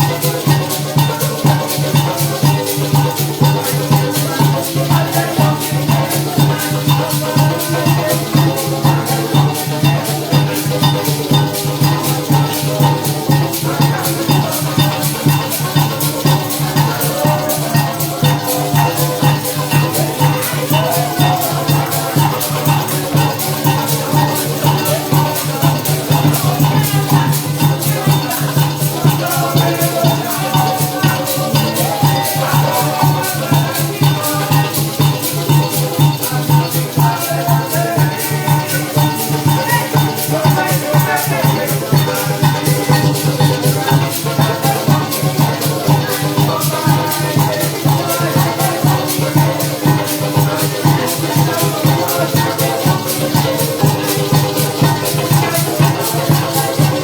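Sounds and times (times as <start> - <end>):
band music: 0.0 - 57.0
maracas shaking fast: 0.0 - 57.0.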